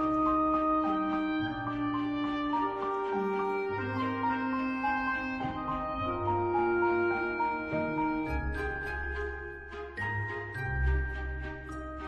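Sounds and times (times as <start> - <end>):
held melodic notes: 0.0 - 12.0.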